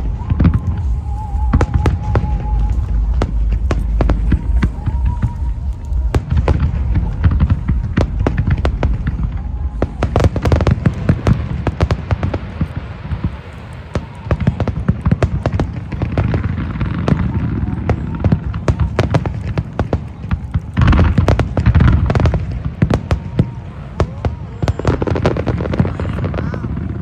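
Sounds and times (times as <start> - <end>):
fireworks bangs and crackles: 0.0 - 27.0
low rumble of shell bursts: 0.0 - 27.0.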